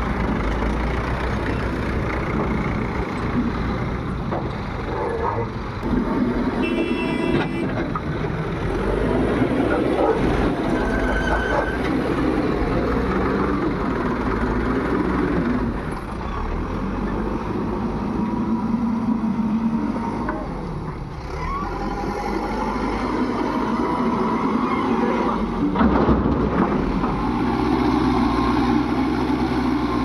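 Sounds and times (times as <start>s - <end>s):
heavy diesel engines rumbling: 0.0s - 30.0s.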